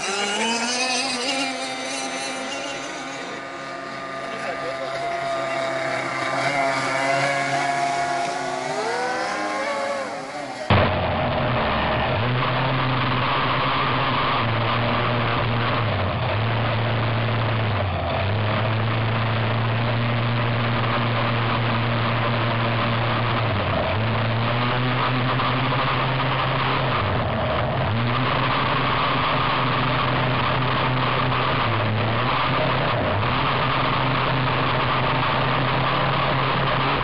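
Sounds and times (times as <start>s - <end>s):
boat engine running at high revs: 0.0s - 37.0s.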